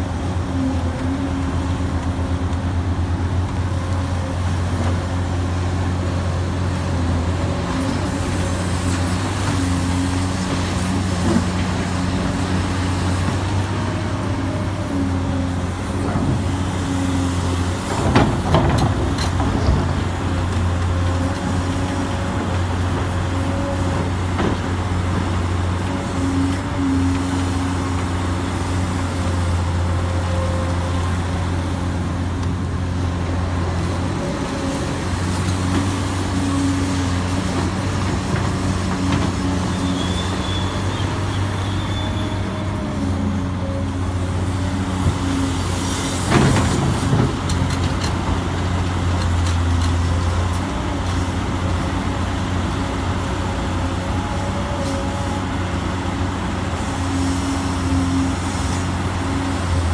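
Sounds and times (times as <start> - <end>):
remote-control excavator drone: 0.0 - 59.9.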